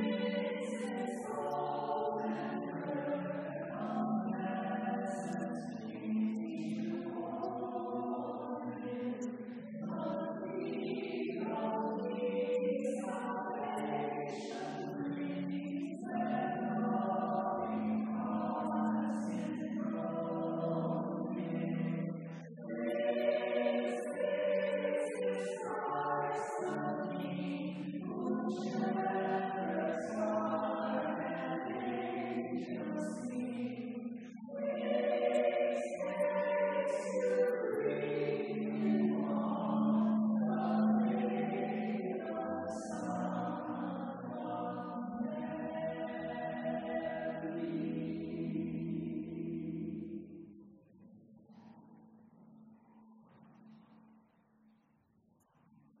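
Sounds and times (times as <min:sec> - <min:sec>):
congregation singing a hymn: 0:00.0 - 0:50.6.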